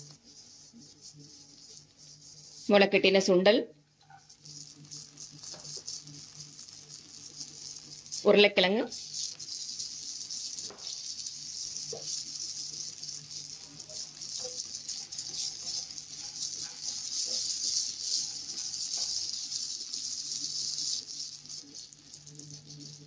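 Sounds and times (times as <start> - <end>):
food sizzling in butter: 0.0 - 23.0
stirring clicks: 4.0 - 23.0.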